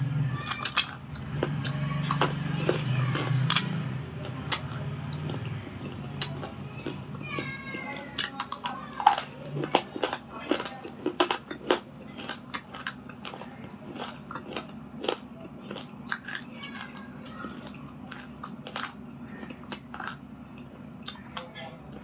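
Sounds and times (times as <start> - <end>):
crunchy chewing: 0.0 - 22.0.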